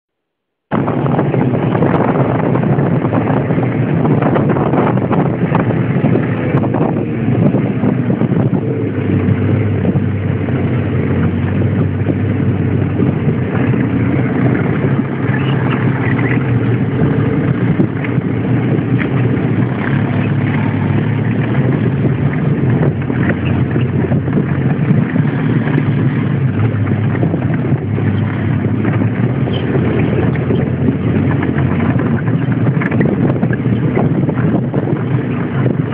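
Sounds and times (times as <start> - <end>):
knocks and rattles over rough ground: 0.7 - 35.9
off-road vehicle engine running: 0.7 - 35.9.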